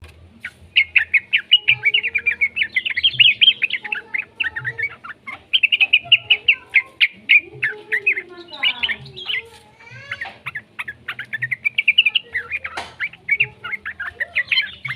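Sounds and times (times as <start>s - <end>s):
bird chirping rapidly: 0.4s - 14.9s.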